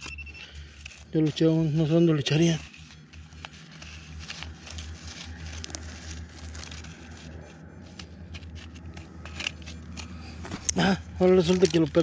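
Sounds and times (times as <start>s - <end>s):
scraping through dirt and pebbles: 0.5s - 12.0s.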